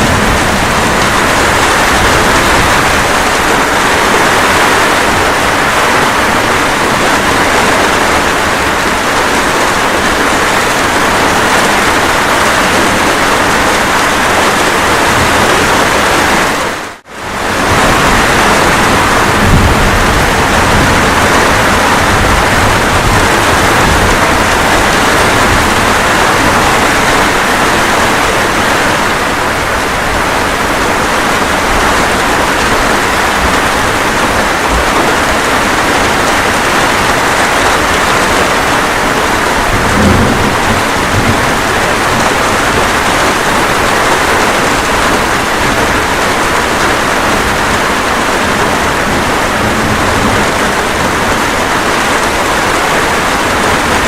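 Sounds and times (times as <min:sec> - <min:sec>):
low thunder rumble: 0:00.0 - 0:09.8, 0:17.4 - 0:54.0
steady rain falling: 0:00.0 - 0:54.0.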